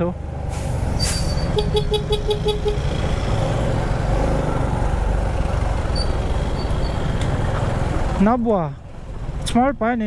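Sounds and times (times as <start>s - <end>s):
engines rumbling in traffic: 0.0s - 10.0s.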